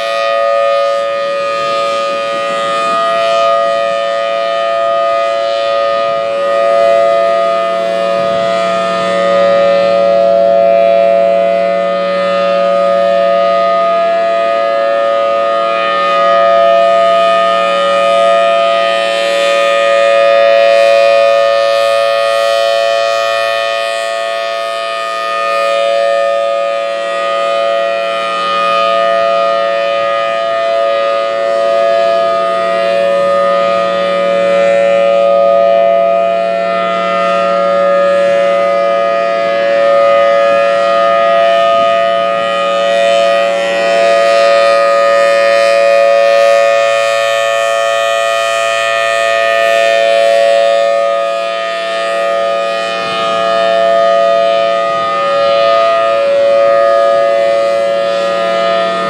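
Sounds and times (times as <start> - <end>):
rotating siren steady tone: 0.0 - 59.0.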